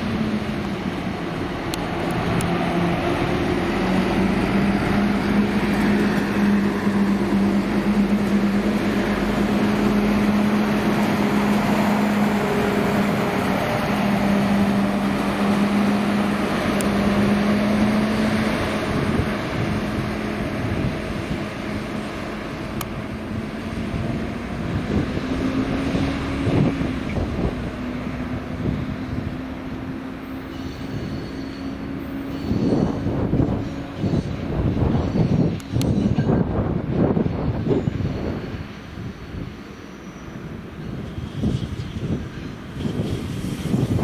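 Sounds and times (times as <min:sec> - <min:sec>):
train drive humming: 0:00.0 - 0:44.0.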